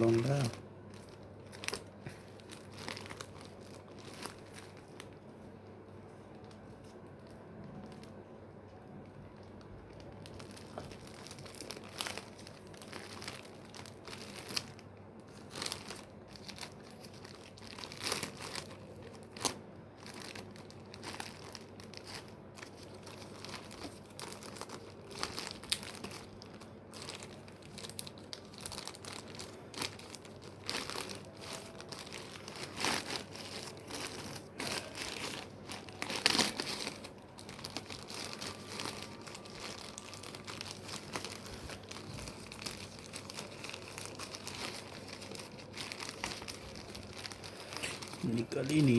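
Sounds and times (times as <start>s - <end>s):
packaging crinkling and tearing: 0.0s - 48.9s.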